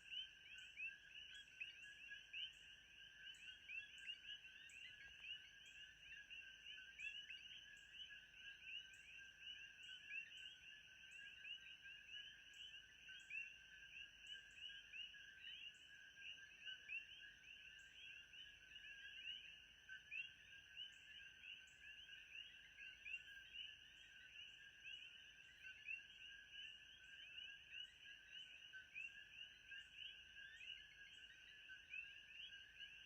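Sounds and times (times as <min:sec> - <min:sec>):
chorus of night animals chirping: 0:00.0 - 0:33.0.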